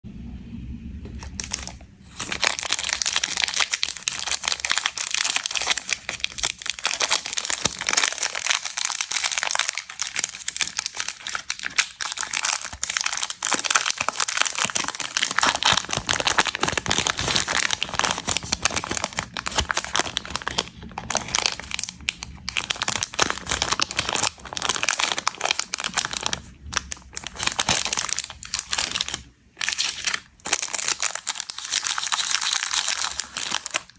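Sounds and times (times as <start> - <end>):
plastic wrappers crinkling: 1.0 - 33.9.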